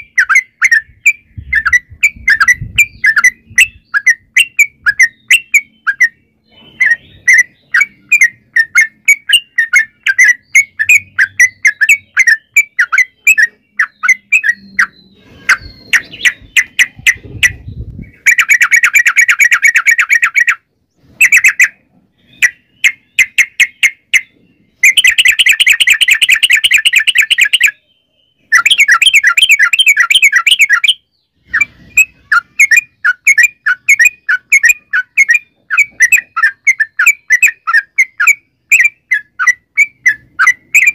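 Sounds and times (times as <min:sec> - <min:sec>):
bird chirping: 0:00.0 - 0:40.9
bird fast chattering runs: 0:06.6 - 0:27.7, 0:28.5 - 0:40.9.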